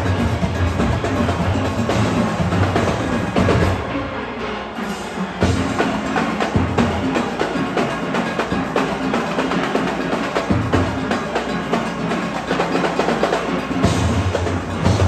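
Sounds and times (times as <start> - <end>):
drum and percussion beat: 0.0 - 15.0.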